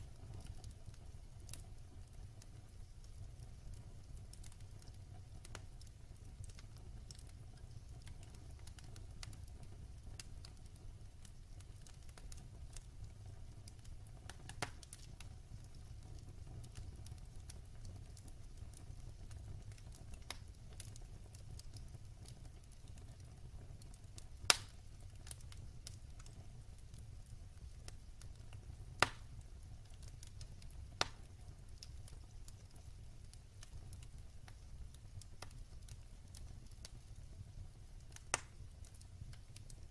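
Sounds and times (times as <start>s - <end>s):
fire crackling and popping: 0.0s - 39.9s
low rumble of fire flames: 0.0s - 39.9s.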